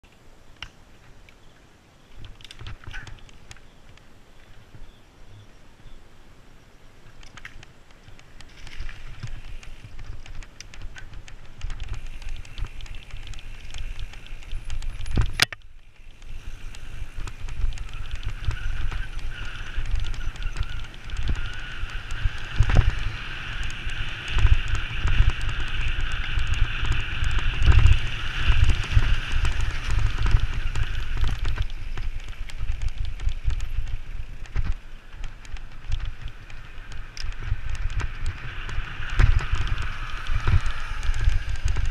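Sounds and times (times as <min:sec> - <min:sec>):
road rumble: 0:00.0 - 0:41.9
wind buffeting microphone: 0:07.6 - 0:41.9.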